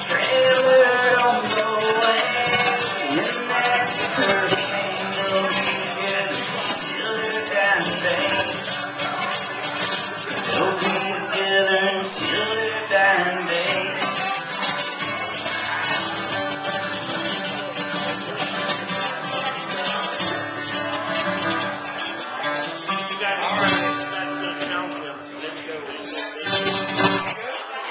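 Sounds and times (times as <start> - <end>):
acoustic guitar strummed: 0.0 - 27.9.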